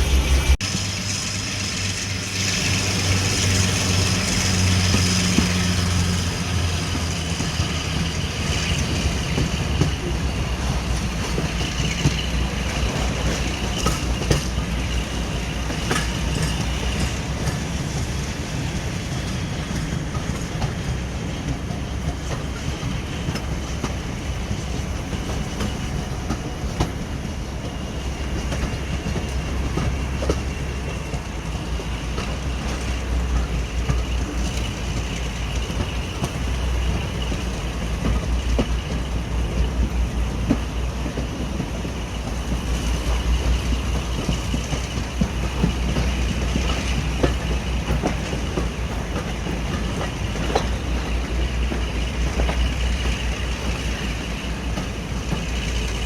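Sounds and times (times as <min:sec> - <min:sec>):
train engine drone: 0:00.0 - 0:56.0
wheels clicking over rail joints: 0:00.4 - 0:56.0.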